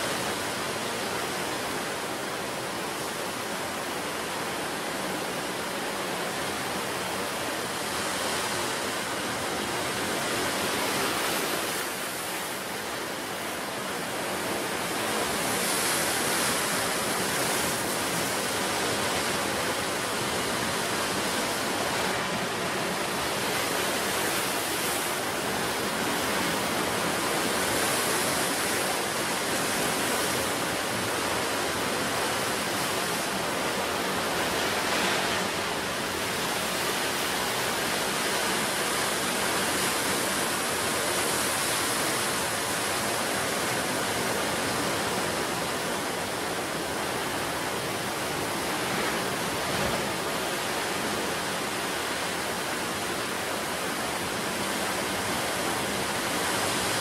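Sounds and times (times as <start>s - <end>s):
waves breaking: 0.0s - 57.0s.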